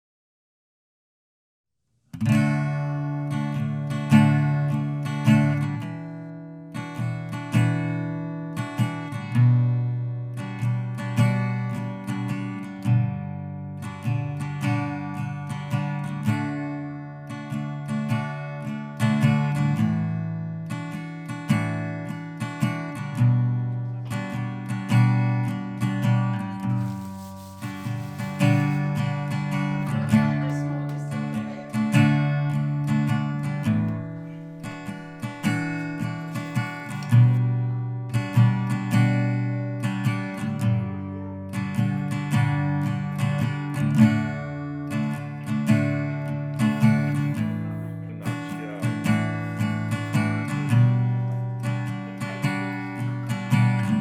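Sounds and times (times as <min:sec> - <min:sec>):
acoustic guitar strumming: 0:02.1 - 0:54.0.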